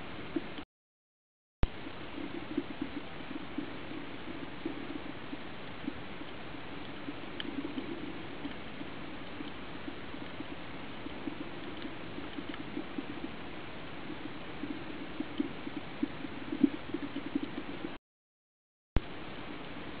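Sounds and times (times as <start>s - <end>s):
crackle of faint ticks: 1.6s - 18.0s.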